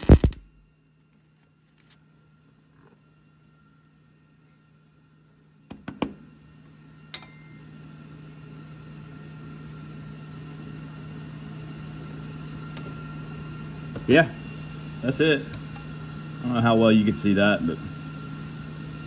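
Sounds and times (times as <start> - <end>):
machine hum with faint whine: 0.0 - 19.0.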